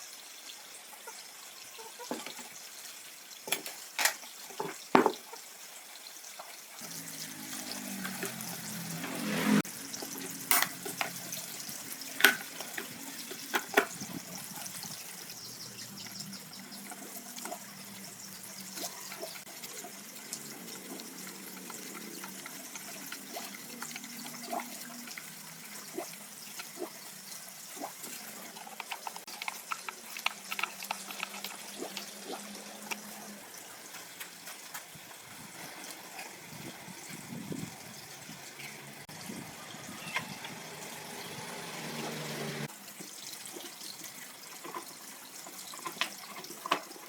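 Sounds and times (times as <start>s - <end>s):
water trickling: 0.8s - 47.0s.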